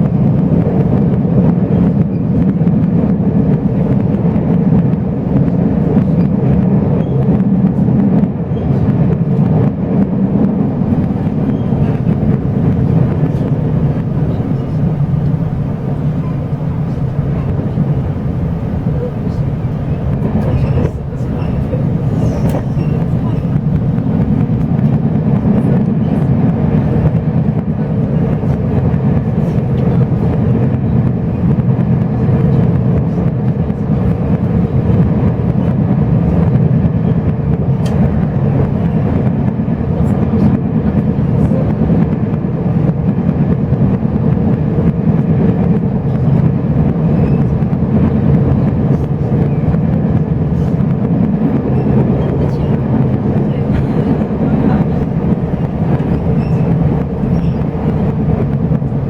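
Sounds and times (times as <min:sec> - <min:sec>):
train rumble inside carriage: 0:00.0 - 0:59.0.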